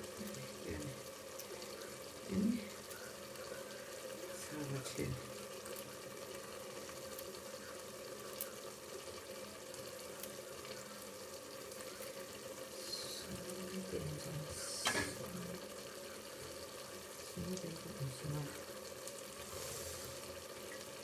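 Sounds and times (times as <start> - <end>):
stew simmering hiss: 0.0 - 21.0.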